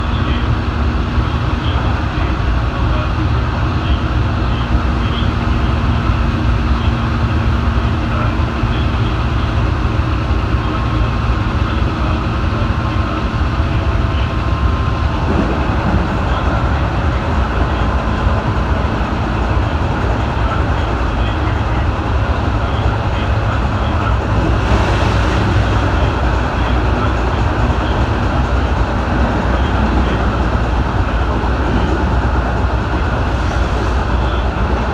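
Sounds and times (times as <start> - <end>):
train wheels rumbling: 0.0 - 34.9.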